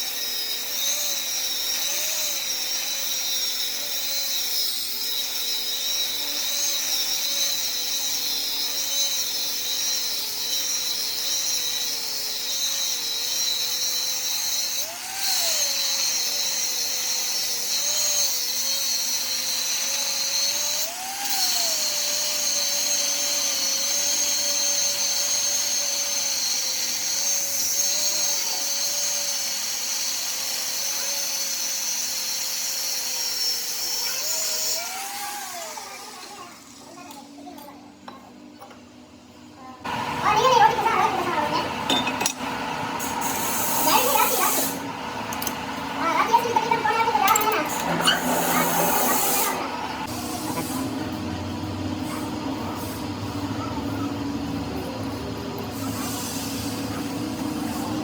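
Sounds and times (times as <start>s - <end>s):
power tool motor whining: 0.0s - 58.0s.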